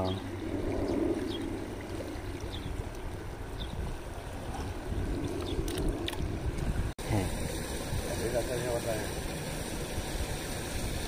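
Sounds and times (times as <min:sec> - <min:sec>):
sea water washing: 0:00.0 - 0:11.0
wind buffeting microphone: 0:00.0 - 0:11.0.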